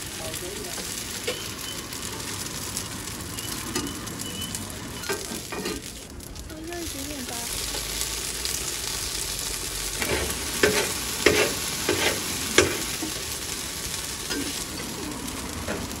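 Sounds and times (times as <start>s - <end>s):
food sizzling on griddle: 0.0s - 16.0s.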